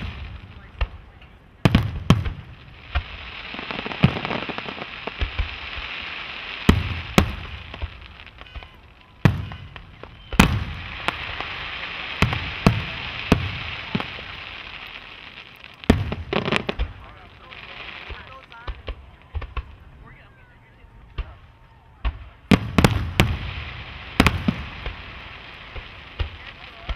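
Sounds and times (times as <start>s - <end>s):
steady hiss: 0.0s - 20.2s, 22.6s - 26.9s
fireworks bursting with bangs: 0.0s - 26.9s.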